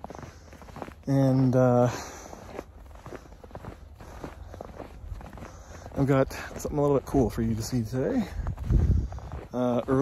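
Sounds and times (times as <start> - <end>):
footsteps of person walking: 0.0 - 10.0.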